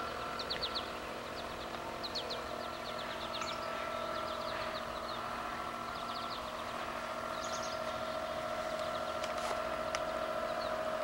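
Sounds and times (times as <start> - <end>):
birds chirping: 0.0 - 11.0
toy boat electric motor whining: 0.0 - 11.0.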